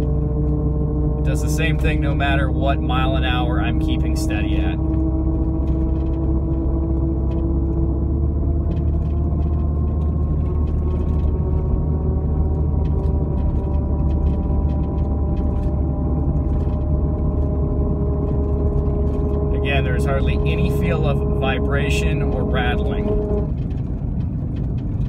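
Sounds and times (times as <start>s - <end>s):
drivetrain drone: 0.0s - 25.0s
road rumble inside car: 0.0s - 25.0s.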